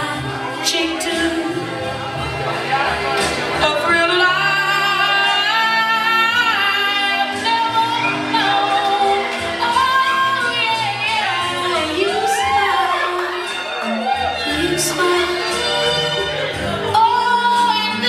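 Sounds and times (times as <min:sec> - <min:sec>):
song over loudspeaker: 0:00.0 - 0:18.0.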